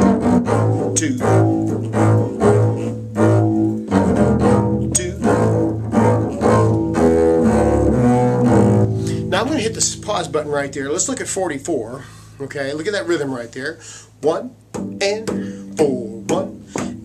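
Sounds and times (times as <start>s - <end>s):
bowed double bass: 0.0s - 17.0s
higher string parts: 0.0s - 17.0s.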